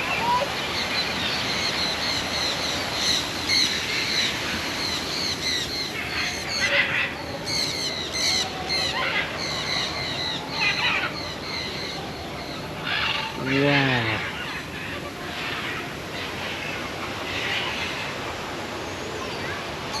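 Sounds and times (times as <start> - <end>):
birds chirping: 0.0 - 17.8.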